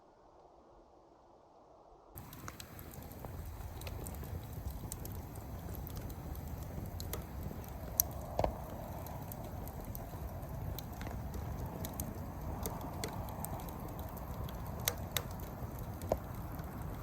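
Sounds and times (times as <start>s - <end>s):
wood fire crackling: 2.2s - 17.0s.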